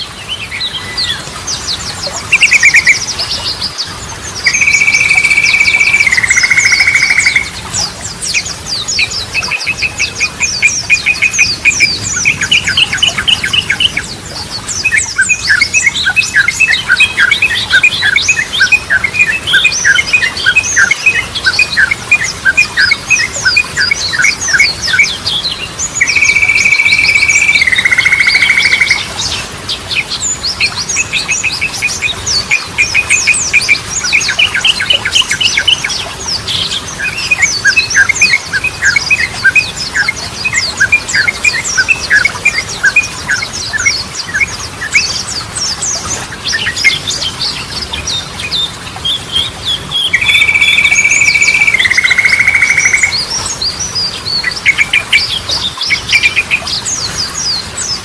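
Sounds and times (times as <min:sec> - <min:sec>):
bird singing busy loud song: 0:00.0 - 0:58.0.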